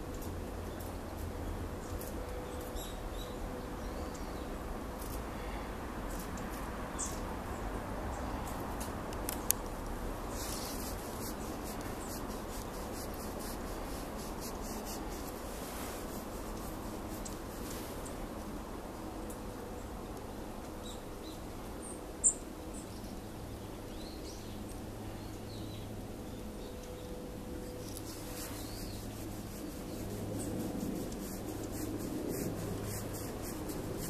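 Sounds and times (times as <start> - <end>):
small birds chipping: 0.0 - 34.0
steady background hiss: 0.0 - 34.0.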